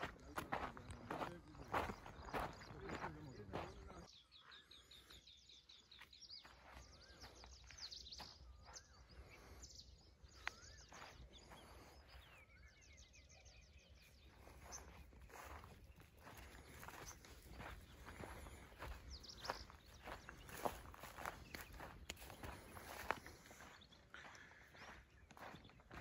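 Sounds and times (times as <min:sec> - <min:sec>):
footsteps on gravel path: 0:00.0 - 0:05.1, 0:05.9 - 0:12.8, 0:14.0 - 0:26.0
wild birds singing: 0:00.0 - 0:26.0.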